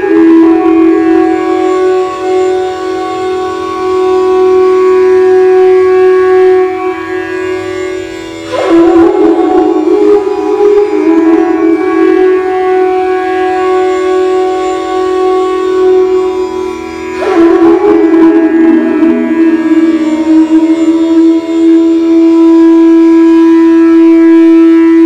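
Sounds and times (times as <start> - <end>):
echoing bamboo flute: 0.0 - 25.0.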